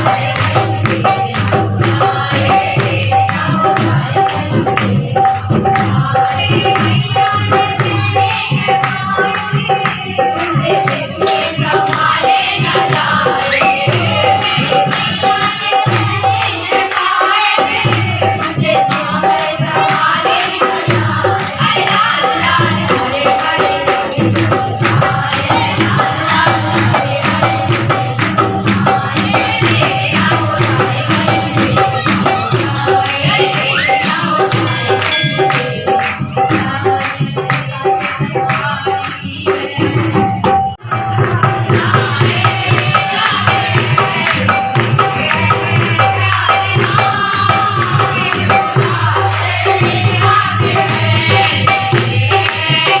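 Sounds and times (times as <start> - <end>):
devotional hymn singing: 0.0 - 53.0
jingling tambourine rhythm: 0.0 - 53.0.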